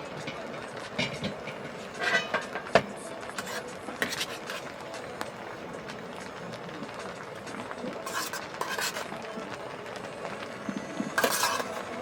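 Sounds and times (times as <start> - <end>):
cookware and utensils clattering: 0.0 - 5.2, 6.2 - 9.6, 11.0 - 12.0.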